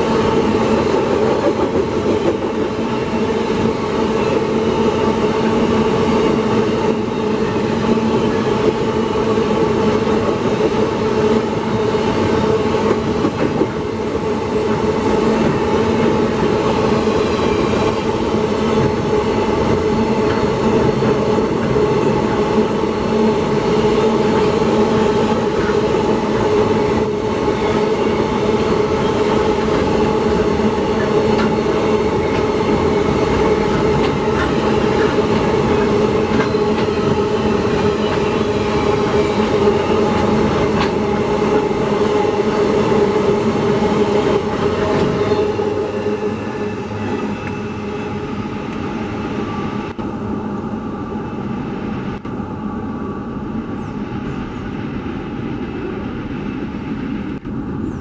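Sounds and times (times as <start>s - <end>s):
steel wheels on rails: 0.0s - 50.0s.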